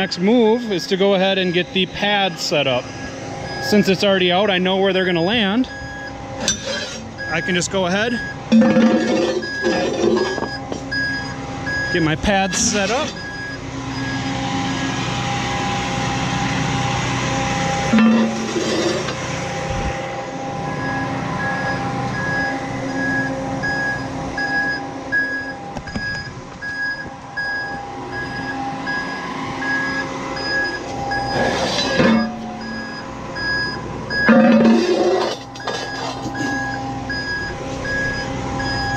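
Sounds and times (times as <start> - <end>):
warning alarm beeping: 0.0 - 15.9, 17.5 - 38.9
truck engine idling: 0.0 - 38.9.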